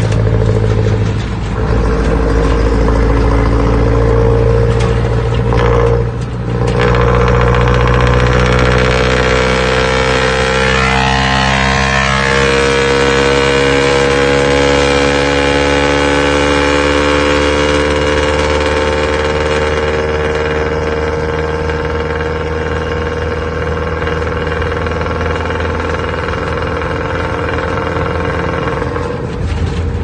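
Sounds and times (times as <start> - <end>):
loud diesel engine running: 0.0 - 30.0.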